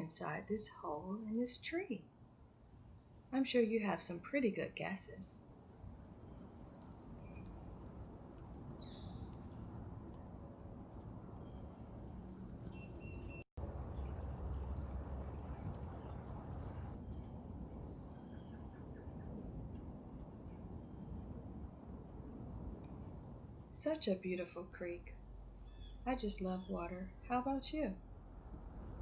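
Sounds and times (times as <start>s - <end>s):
songbirds chirping: 0.0s - 21.5s, 23.8s - 28.2s
low outdoor rumble: 3.3s - 29.0s.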